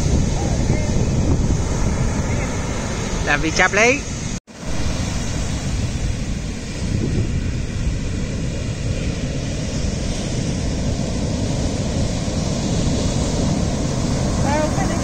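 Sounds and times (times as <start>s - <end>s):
foam washing up beach: 0.0s - 15.0s
waves breaking: 0.0s - 15.0s
wind on microphone: 0.0s - 15.0s.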